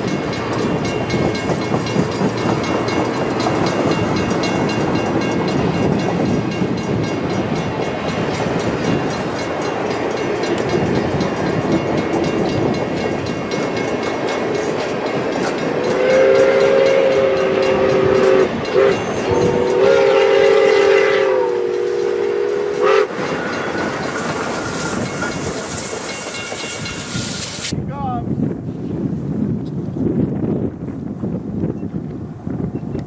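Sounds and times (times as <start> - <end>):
steam locomotive chime whistle: 0.0 - 27.7
moving train noise: 0.0 - 33.0.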